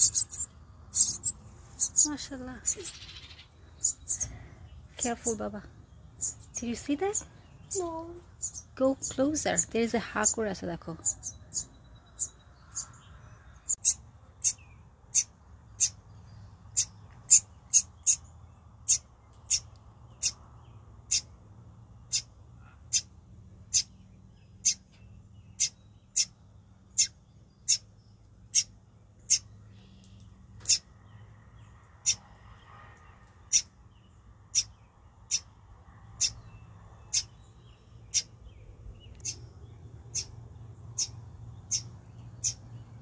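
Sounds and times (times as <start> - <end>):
small bird chirping: 0.0 - 43.0.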